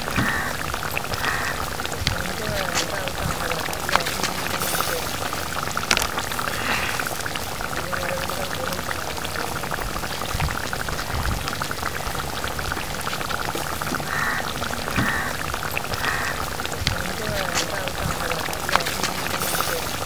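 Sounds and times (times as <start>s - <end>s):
food crackling in a pan: 0.0s - 20.0s.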